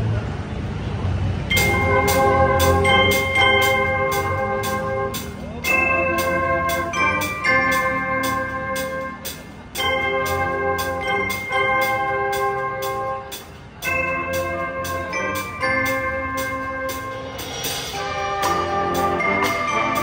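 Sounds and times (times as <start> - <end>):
brass horns holding chords: 1.5 - 20.0
steady drum beat: 1.5 - 20.0.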